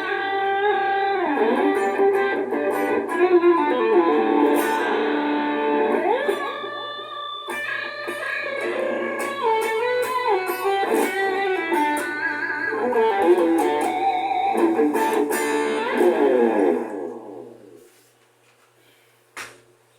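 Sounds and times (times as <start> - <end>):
electric guitar melody: 0.0 - 17.8.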